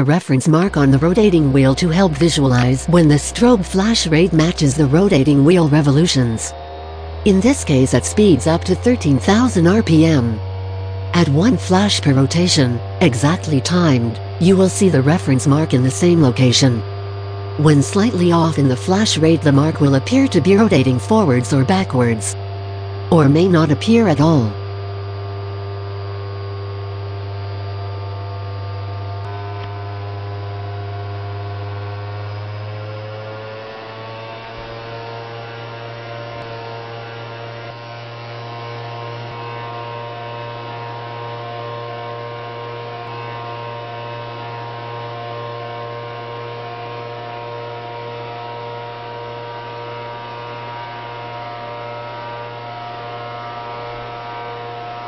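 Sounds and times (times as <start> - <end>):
electric motor hum and whine: 0.0 - 55.0.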